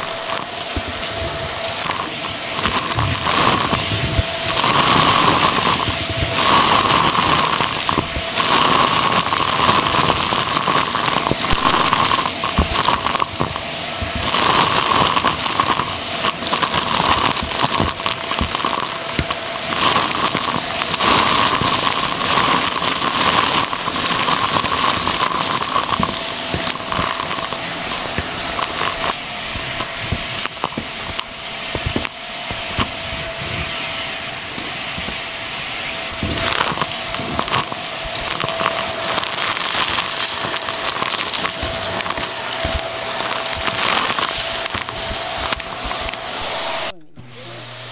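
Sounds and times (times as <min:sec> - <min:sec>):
debris rattling up vacuum tube: 0:00.0 - 0:46.9
vacuum cleaner motor whine: 0:00.0 - 0:47.9.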